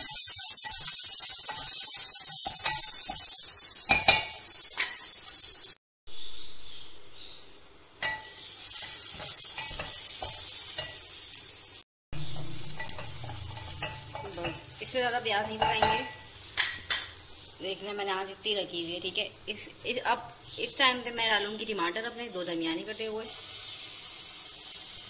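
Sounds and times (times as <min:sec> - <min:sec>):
onions sizzling in hot oil: 0:00.0 - 0:05.8, 0:06.7 - 0:25.0.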